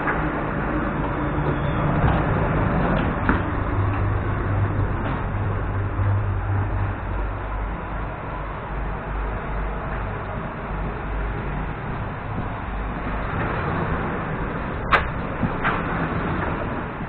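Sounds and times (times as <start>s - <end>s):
low hum of train equipment: 0.0s - 17.0s.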